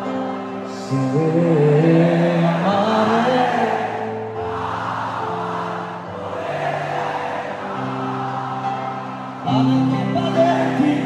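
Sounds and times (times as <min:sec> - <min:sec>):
person singing: 0:00.0 - 0:05.0, 0:06.2 - 0:11.0.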